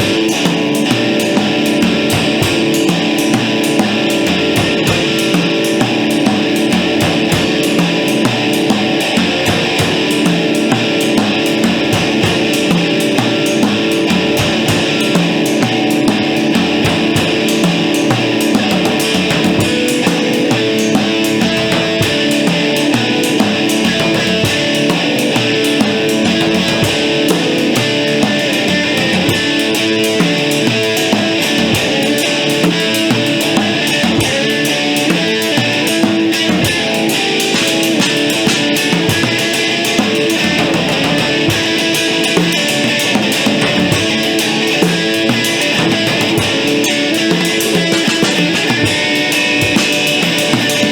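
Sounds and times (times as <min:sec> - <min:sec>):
quick drum strikes: 0:00.0 - 0:50.9
rock band playing: 0:00.0 - 0:50.9.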